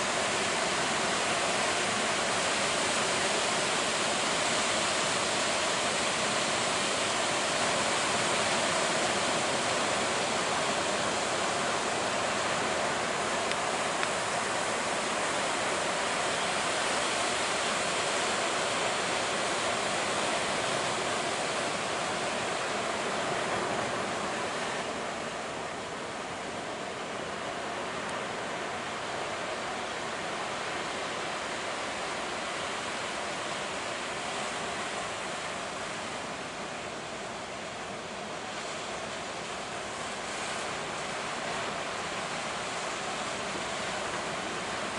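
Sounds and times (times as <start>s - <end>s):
ocean waves rushing: 0.0s - 44.9s.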